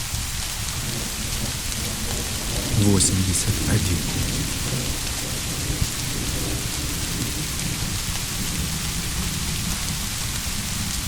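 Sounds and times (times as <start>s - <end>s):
steady rain: 0.0s - 11.0s
distant thunder rumble: 0.8s - 10.0s.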